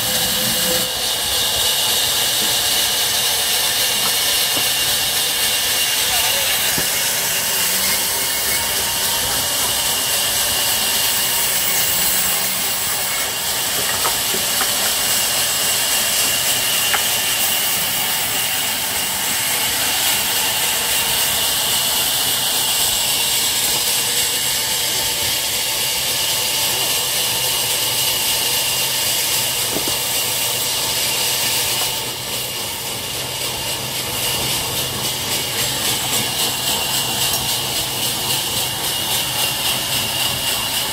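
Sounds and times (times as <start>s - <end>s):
band saw cutting timber: 0.0s - 40.9s.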